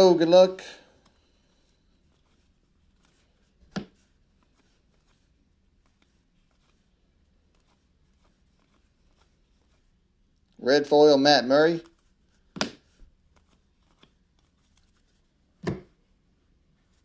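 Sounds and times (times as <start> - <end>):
trading cards rustling: 0.0 - 15.4.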